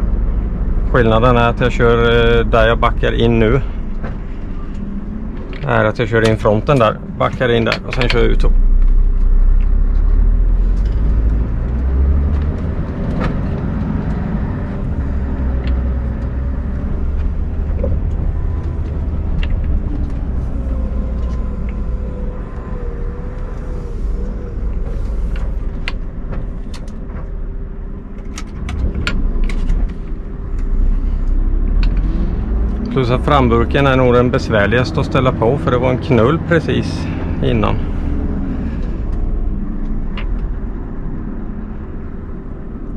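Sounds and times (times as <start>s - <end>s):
truck diesel engine rumbling: 0.0s - 42.9s.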